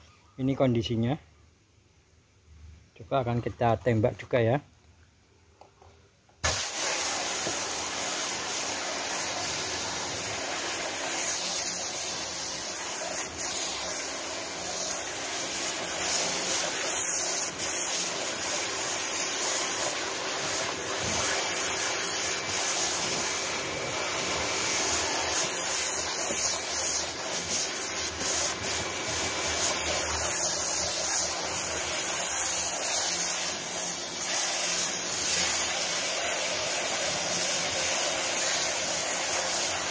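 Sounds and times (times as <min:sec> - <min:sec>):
pressure washer water jet hissing: 0:06.4 - 0:39.9.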